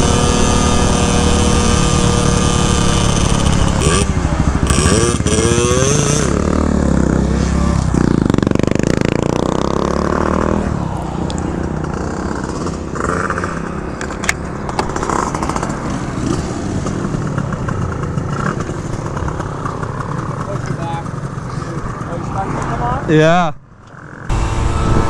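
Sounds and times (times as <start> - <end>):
two-stroke scooter engine revving: 0.0 - 10.8, 11.5 - 22.5, 24.0 - 25.0.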